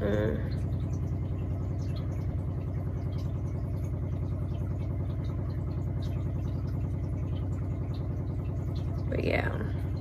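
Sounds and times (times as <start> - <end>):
low pulsing mechanical hum: 0.0 - 10.0.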